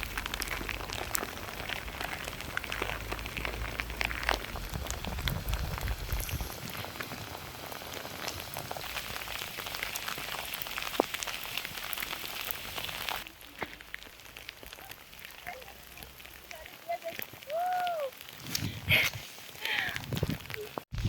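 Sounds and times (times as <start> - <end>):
raindrop ticks: 0.0 - 19.0
rain falling: 0.0 - 21.0.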